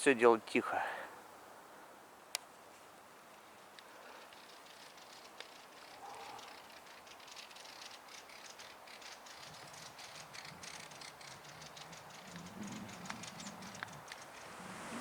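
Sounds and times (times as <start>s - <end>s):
faint crackling and clicking: 2.3s - 14.5s.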